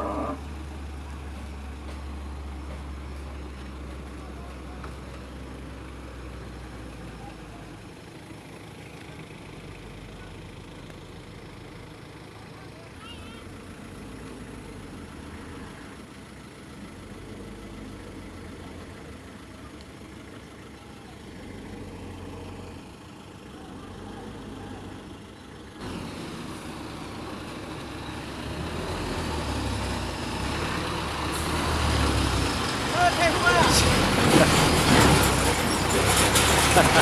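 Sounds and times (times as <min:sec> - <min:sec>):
truck passing by: 0:00.0 - 0:37.0
vehicle engines idling: 0:00.0 - 0:37.0.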